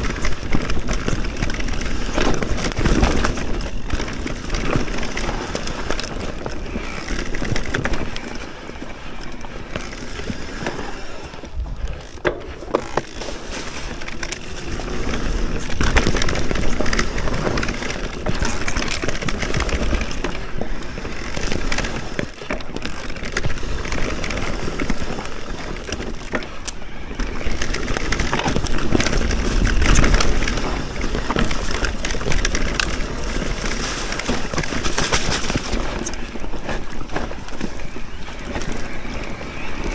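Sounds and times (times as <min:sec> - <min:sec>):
bike rattling and knocking: 0:00.0 - 0:39.9
tyres crunching over ground: 0:00.0 - 0:39.9
wind rumbling on microphone: 0:00.0 - 0:39.9.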